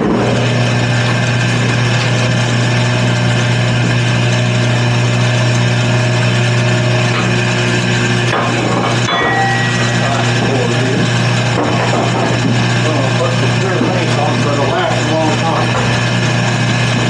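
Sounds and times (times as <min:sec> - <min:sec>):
wood lathe running: 0:00.0 - 0:17.0.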